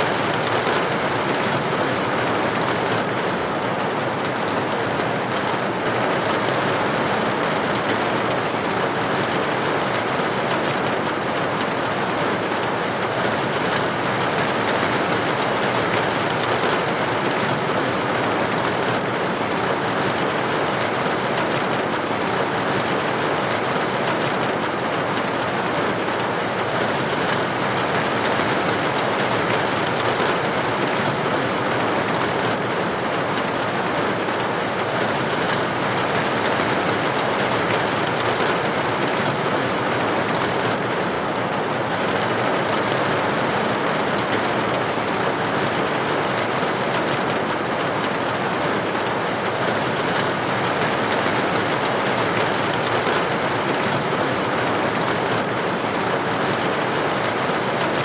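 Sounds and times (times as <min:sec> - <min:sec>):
rain pattering on window: 0:00.0 - 0:58.0.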